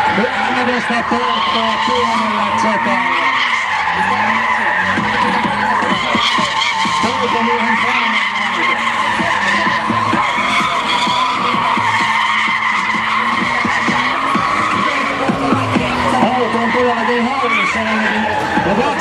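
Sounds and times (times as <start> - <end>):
car engine at high revs: 0.0 - 19.0
tyres squealing: 0.0 - 19.0.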